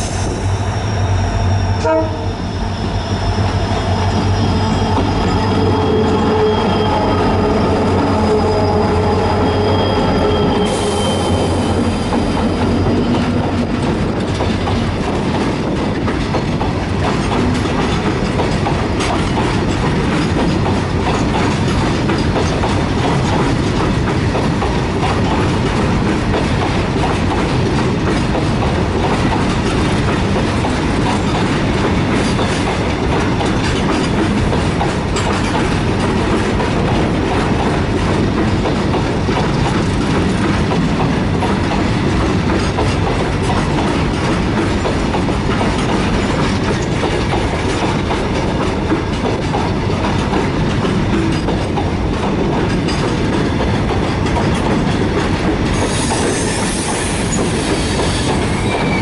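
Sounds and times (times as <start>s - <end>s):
diesel locomotive engine drone: 0.0s - 59.0s
train wheels clattering over rail joints: 10.6s - 59.0s.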